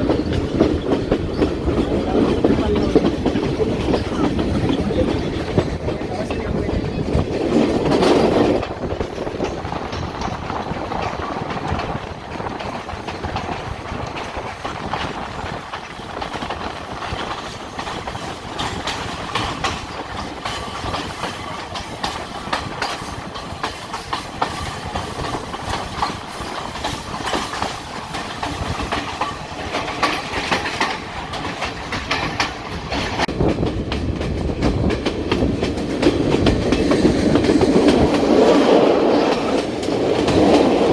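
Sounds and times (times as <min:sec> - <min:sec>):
train wheels clickety-clack: 0:00.0 - 0:40.9.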